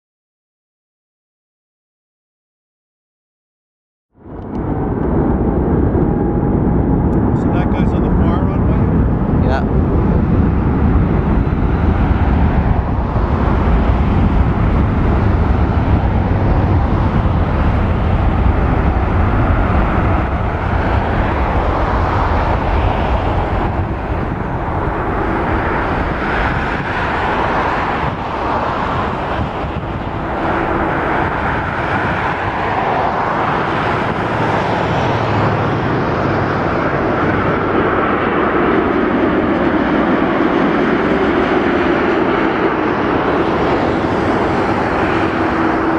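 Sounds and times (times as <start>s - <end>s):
jet airliner passing: 4.2s - 45.9s.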